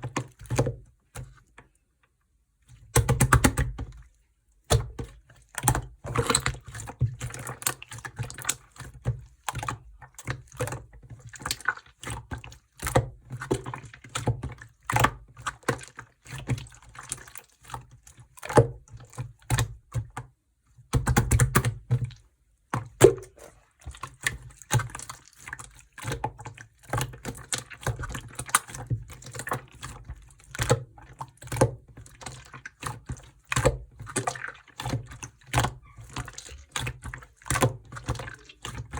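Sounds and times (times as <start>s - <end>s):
slime squishing with sticky clicks: 0.0s - 38.9s
slime squelching: 2.6s - 38.9s.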